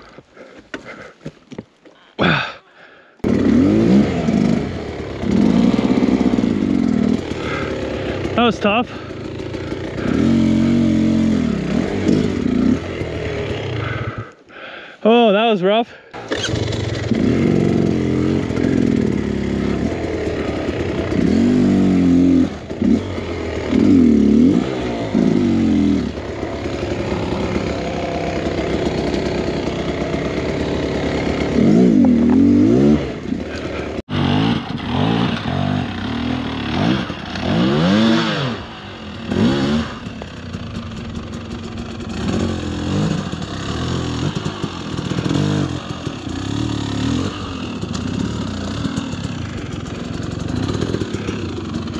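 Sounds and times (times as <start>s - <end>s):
dirt bike engine revving: 3.2s - 14.3s, 16.2s - 51.9s.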